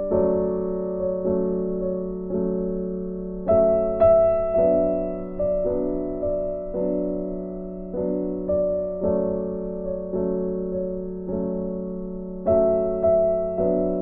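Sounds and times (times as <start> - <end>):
slow piano notes: 0.0 - 14.0.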